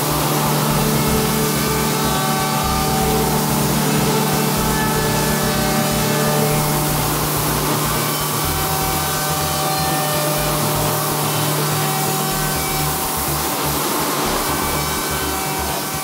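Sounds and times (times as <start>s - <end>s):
dust extraction running: 0.0s - 16.0s
machine spindles cutting wood: 0.0s - 16.0s.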